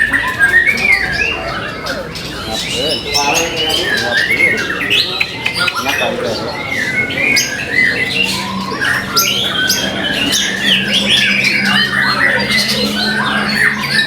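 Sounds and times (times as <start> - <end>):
bird singing whistles and chatter: 0.0 - 14.0.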